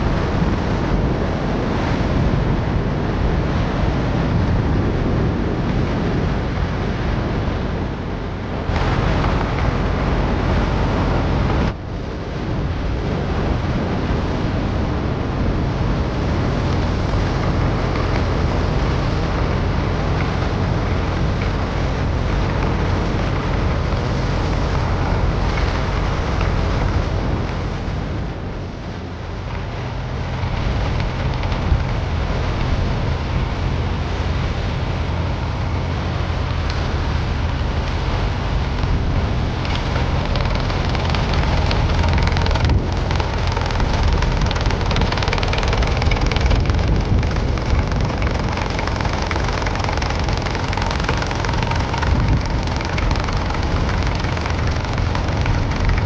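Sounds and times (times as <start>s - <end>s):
wind noise on microphone: 0.0s - 56.0s
tractor engine running: 3.2s - 11.8s, 12.4s - 56.0s.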